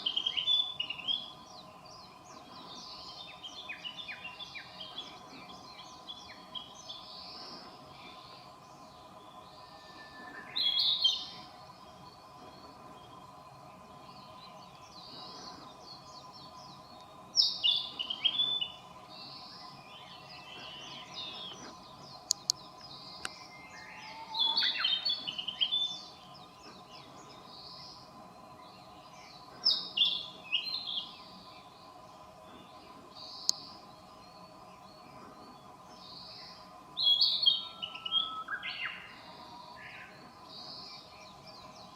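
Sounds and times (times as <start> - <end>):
birds calling softly: 0.0 - 41.9
songbird singing: 0.0 - 41.9
steady low hum: 0.0 - 41.9.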